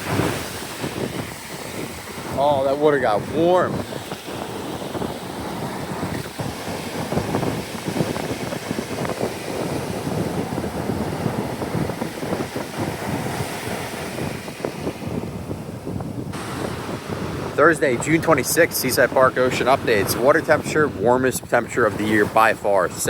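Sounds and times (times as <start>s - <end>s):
small waves breaking on beach: 0.0s - 23.0s
wind buffeting microphone: 0.0s - 23.0s.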